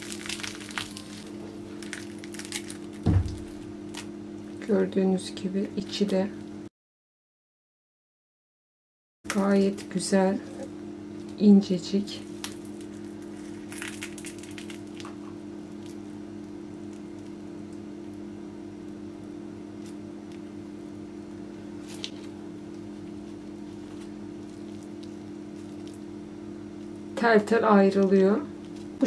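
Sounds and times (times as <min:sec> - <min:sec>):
pastry crackling: 0:00.0 - 0:04.6, 0:09.3 - 0:29.0
steady low hum: 0:00.0 - 0:06.7, 0:09.3 - 0:29.0.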